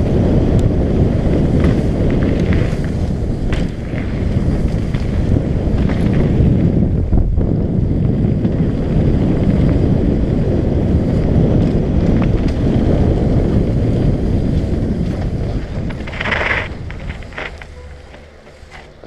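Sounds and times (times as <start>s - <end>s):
bike rumbling on dirt trail: 0.0s - 19.0s
wind buffeting microphone: 0.0s - 19.0s.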